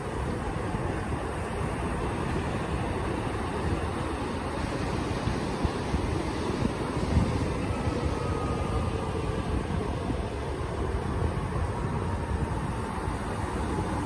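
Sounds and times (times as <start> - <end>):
ocean surf breaking: 0.0 - 14.0
wind rumble on microphone: 0.0 - 14.0.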